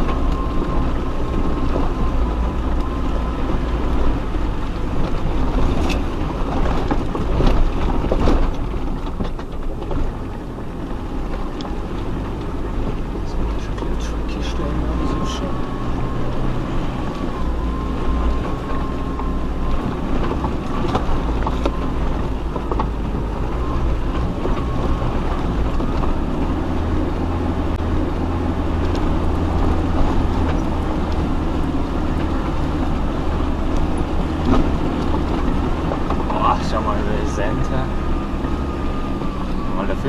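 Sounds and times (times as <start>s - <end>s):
vehicle engine running at low revs: 0.0s - 40.0s.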